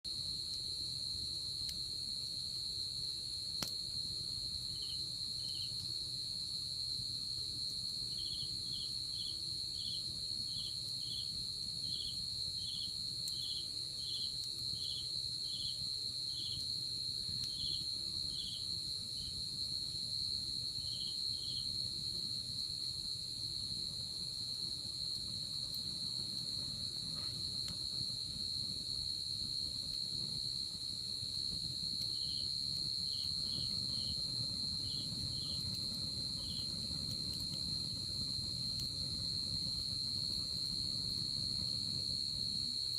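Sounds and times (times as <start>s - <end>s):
insect continuous high trill: 0.1s - 42.9s.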